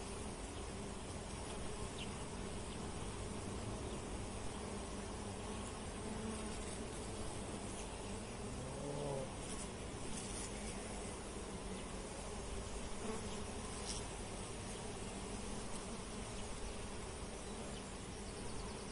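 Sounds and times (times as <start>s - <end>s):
insects buzzing: 0.0s - 18.9s.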